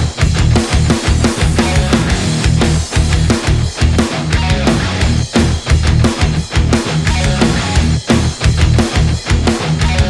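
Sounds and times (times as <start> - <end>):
distorted guitars: 0.0 - 10.0
driving drum beat: 0.0 - 10.0
heavy rock music: 0.0 - 10.0.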